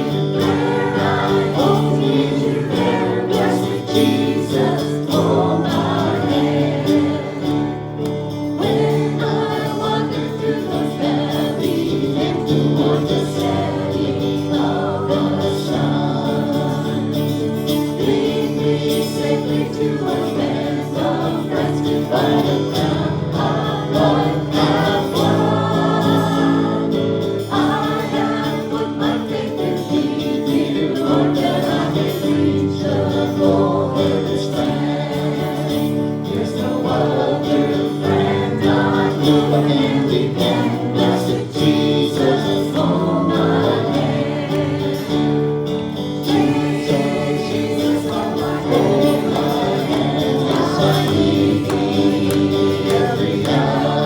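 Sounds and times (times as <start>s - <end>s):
choir singing gospel music: 0.0s - 54.0s
sustained instrumental accompaniment: 0.0s - 54.0s.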